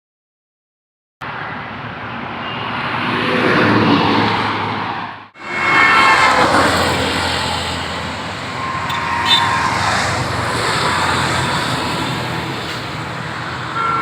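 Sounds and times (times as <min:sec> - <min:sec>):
highway traffic: 0:01.2 - 0:14.0.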